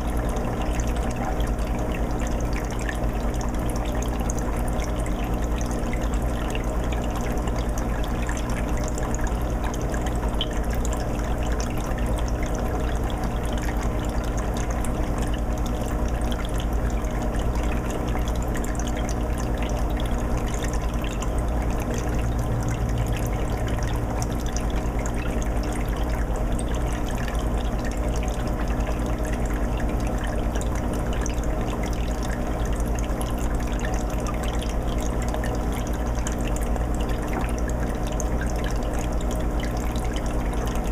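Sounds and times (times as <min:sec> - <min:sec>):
low motor hum: 0:00.0 - 0:40.9
water trickling and bubbling: 0:00.0 - 0:40.9.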